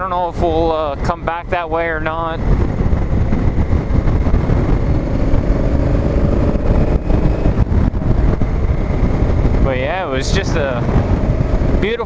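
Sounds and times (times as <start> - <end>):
faint motorcycle engine: 0.0 - 12.0
wind rush while riding: 0.0 - 12.0.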